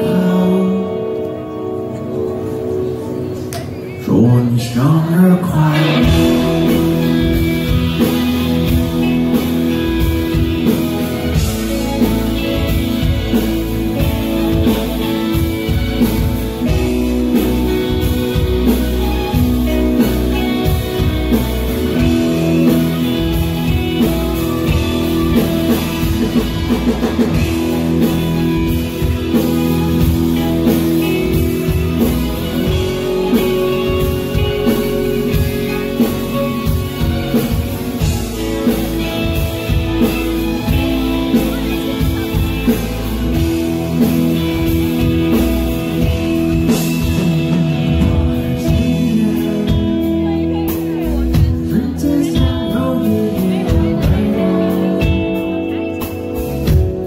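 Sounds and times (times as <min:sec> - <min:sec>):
drum kit: 0:05.4 - 0:57.0.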